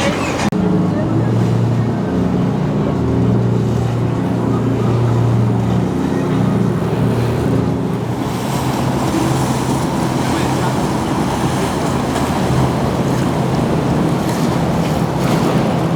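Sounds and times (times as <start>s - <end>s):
motorboat engine humming: 0.0s - 15.9s.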